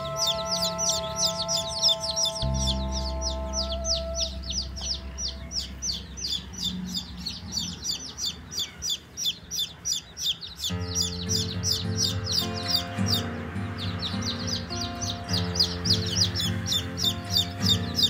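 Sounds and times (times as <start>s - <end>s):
background music: 0.0s - 7.1s, 10.6s - 18.0s
baby chicks peeping: 0.0s - 18.0s.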